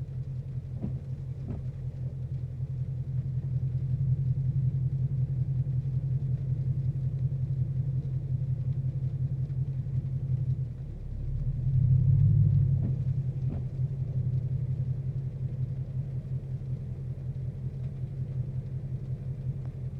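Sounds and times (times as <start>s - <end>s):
car engine idling roughly: 0.0s - 19.9s.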